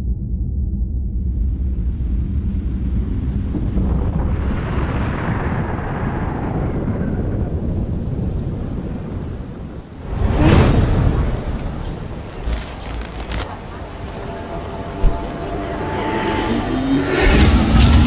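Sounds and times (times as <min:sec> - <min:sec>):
deep rumble: 0:00.0 - 0:18.0
rushing noise: 0:01.0 - 0:18.0.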